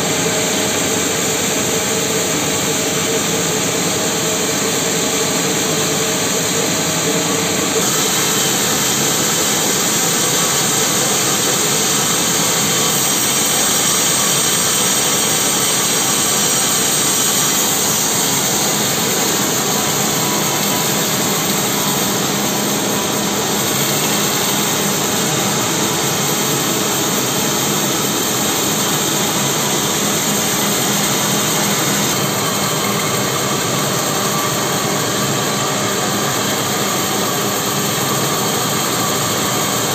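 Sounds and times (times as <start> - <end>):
band sawmill cutting log: 7.8 - 39.8.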